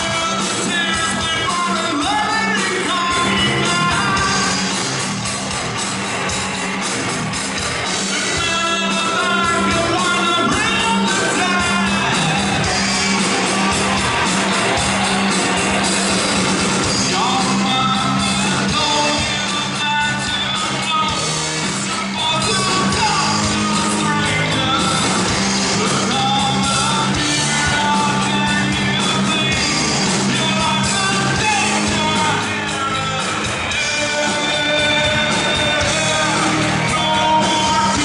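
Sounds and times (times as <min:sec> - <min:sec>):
rock band with singer: 0:00.0 - 0:38.0.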